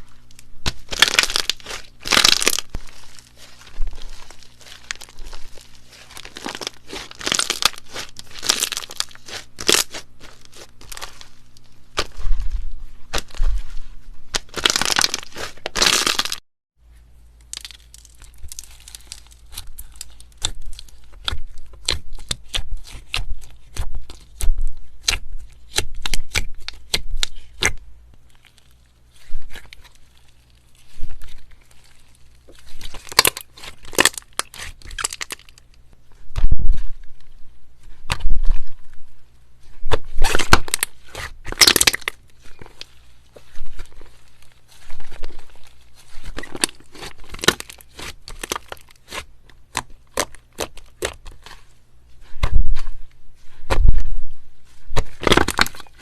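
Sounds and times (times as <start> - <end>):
slime crackling and tearing: 0.0 - 12.5, 13.1 - 16.4, 17.4 - 37.2, 39.8 - 54.1, 54.7 - 56.0.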